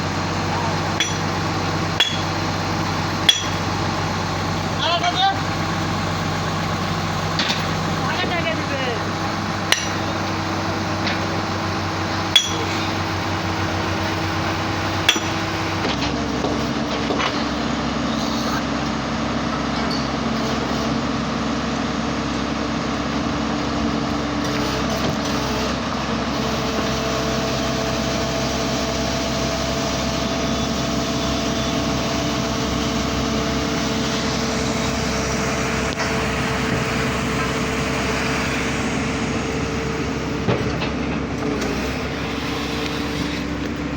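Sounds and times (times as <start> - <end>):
drilling machine engine running: 0.0 - 43.9.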